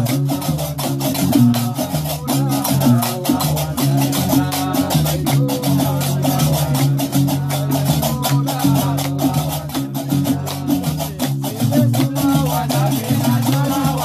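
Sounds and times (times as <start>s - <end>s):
man singing: 0.0s - 14.0s
plucked bass lute: 0.0s - 14.0s.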